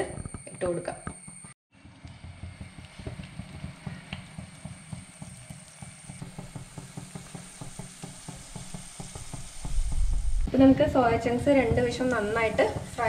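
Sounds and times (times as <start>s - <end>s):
food deep-frying in hot oil: 2.2s - 13.0s.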